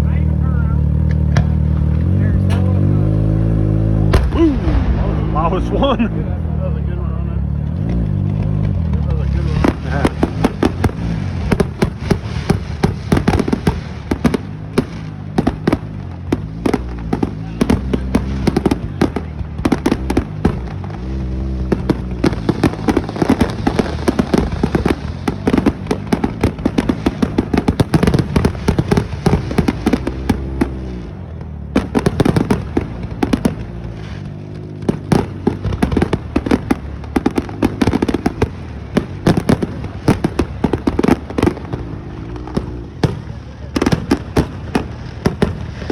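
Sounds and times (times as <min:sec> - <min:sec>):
fireworks bangs: 0:00.0 - 0:06.6, 0:07.6 - 0:45.9
low rumble of booms: 0:00.0 - 0:45.9.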